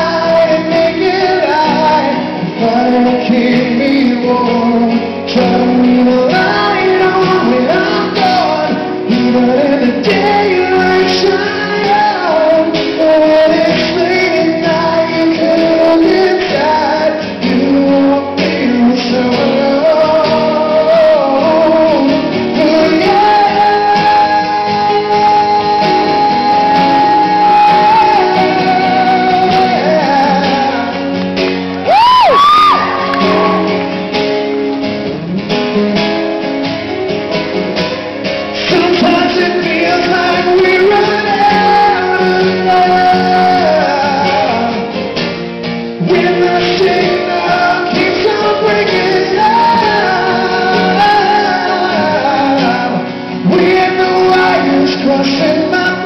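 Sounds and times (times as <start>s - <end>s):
man singing wordless lines: 0.0s - 31.5s, 38.4s - 56.0s
acoustic guitars strumming: 0.0s - 56.0s.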